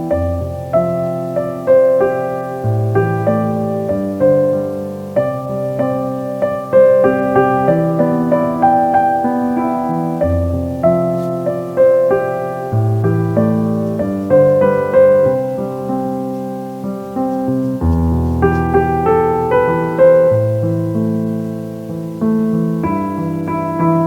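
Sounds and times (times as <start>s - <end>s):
gentle solo piano: 0.0s - 24.0s.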